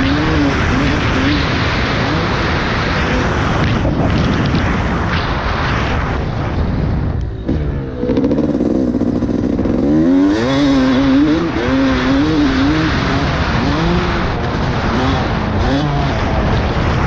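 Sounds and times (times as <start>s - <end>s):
dirt bike engine revving: 0.0s - 5.0s, 7.4s - 17.0s
loud rushing noise: 0.0s - 17.0s.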